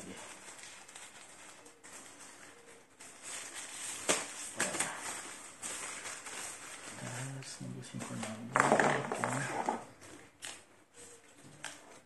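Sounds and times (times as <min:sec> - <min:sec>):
packaging sheet crinkling: 0:00.0 - 0:12.0.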